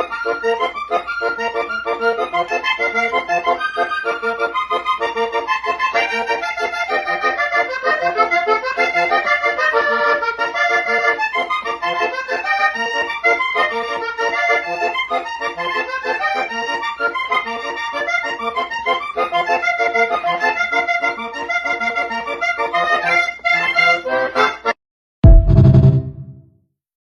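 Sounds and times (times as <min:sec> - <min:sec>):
accordion playing fast melody: 0:00.0 - 0:26.3.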